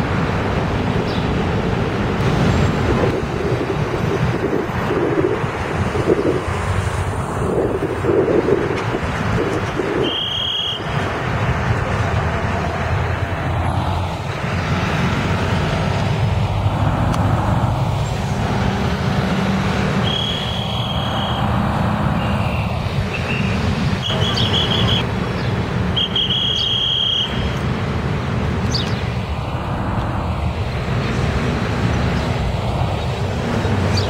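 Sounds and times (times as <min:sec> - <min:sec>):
bus engines and traffic rumble: 0:00.0 - 0:34.0.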